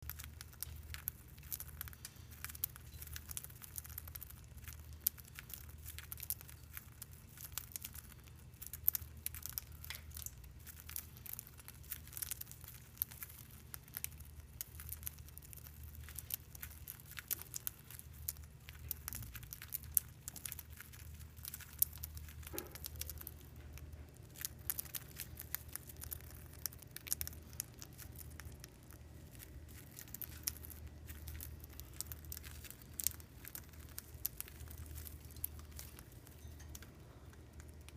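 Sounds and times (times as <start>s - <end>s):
birds husking seeds: 0.0s - 37.9s
low steady hum: 0.0s - 37.9s.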